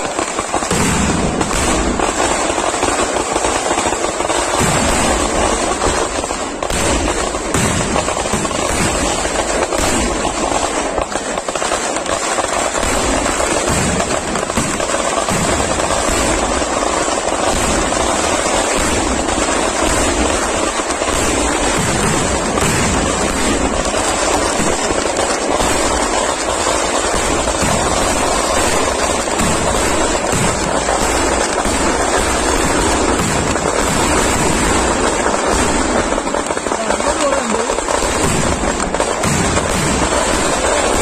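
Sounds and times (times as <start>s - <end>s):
fireworks and firecrackers bursting: 0.0s - 41.0s.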